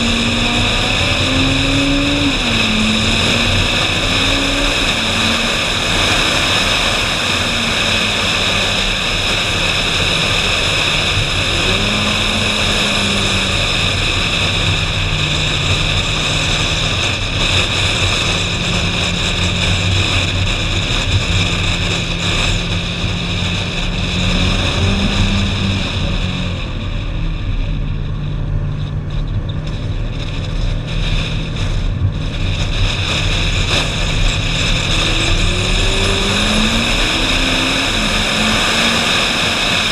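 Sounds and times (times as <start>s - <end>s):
car engine running: 0.0s - 39.9s
wind rushing over microphone: 0.0s - 39.9s.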